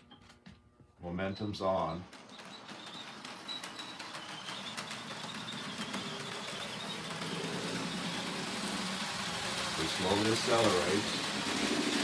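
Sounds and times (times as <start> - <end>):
model locomotive motor hum: 2.0 - 12.0.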